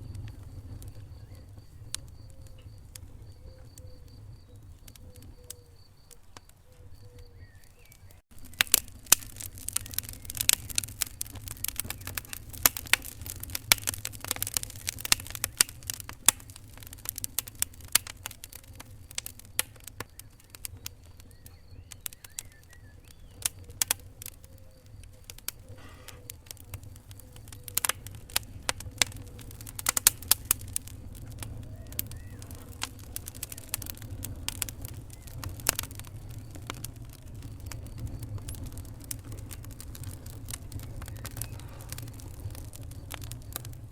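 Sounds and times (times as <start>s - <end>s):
low fire rumble: 0.0s - 43.9s
wood fire crackling and popping: 0.0s - 43.9s.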